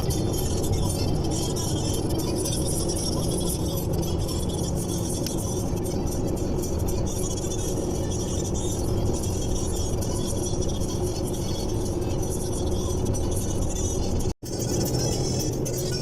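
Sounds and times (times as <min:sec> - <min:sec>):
car engine: 0:00.0 - 0:16.0
road noise inside car: 0:00.0 - 0:16.0.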